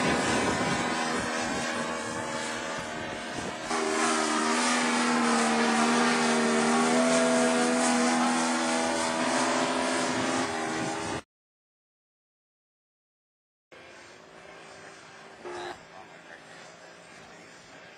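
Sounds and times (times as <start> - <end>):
model airplane engine buzzing: 0.0 - 11.2, 13.8 - 17.9.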